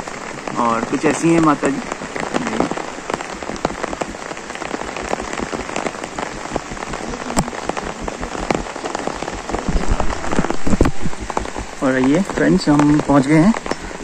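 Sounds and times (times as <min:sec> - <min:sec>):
raindrops ticking close by: 0:00.0 - 0:14.0
steady rain falling: 0:00.0 - 0:14.0
low thuds: 0:01.2 - 0:14.0.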